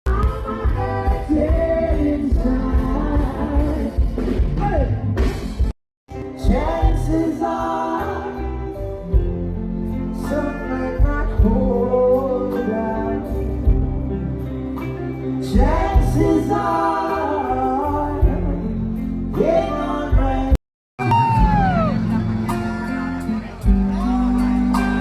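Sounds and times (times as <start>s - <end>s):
live reggae band playing: 0.1s - 25.0s.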